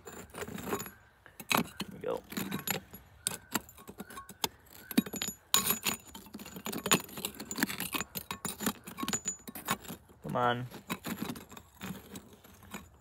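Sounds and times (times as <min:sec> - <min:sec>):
metal scrap clinking and scraping: 0:00.0 - 0:13.0.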